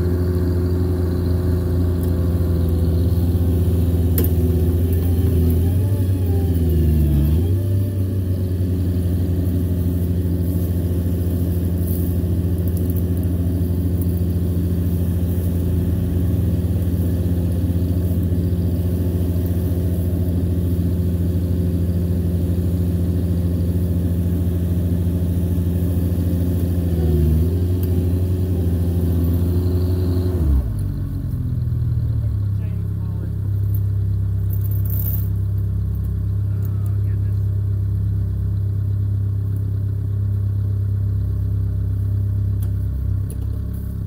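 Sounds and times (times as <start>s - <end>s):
skid steer engine running: 0.0s - 44.0s.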